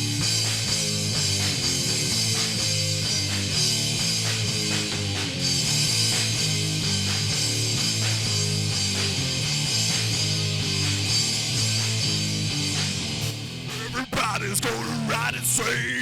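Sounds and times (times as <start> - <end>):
bass guitar: 0.0 - 16.0
distorted electric guitar: 0.0 - 16.0
drums: 0.0 - 16.0.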